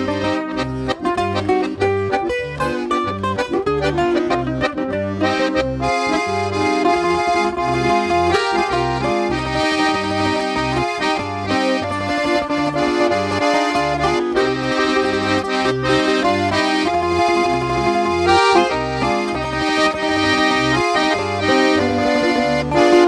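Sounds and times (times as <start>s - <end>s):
accordion melody: 0.0s - 23.0s
bouzouki playing: 0.0s - 23.0s.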